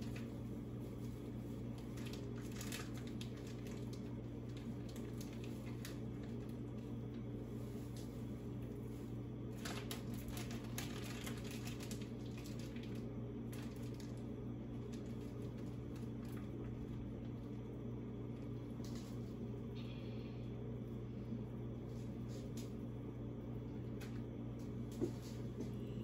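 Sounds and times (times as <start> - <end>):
gas burner hum: 0.0 - 10.8, 11.8 - 26.0.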